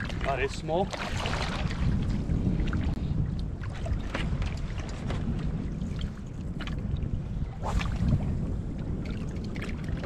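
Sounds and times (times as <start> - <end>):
wind buffeting the microphone: 0.0 - 10.0.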